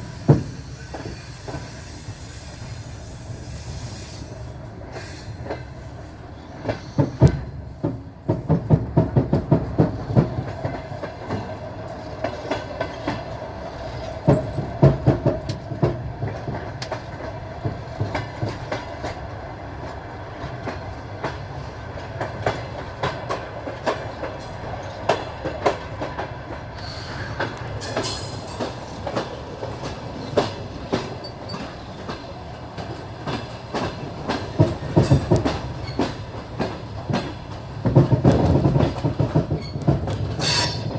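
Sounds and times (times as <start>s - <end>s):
train rolling rumble: 0.0s - 40.9s
train wheels clacking over rail joints: 0.0s - 40.9s.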